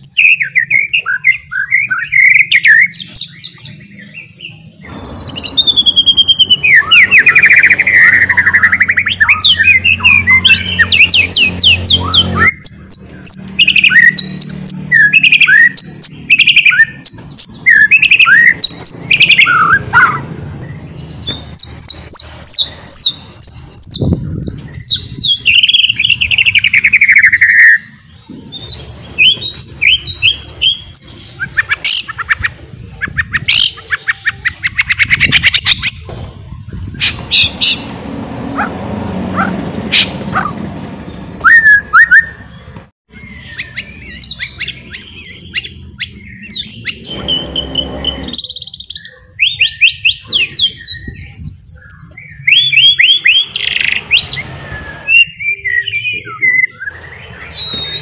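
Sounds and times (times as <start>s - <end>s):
songbird singing varied trills: 0.0s - 38.2s, 41.1s - 58.0s.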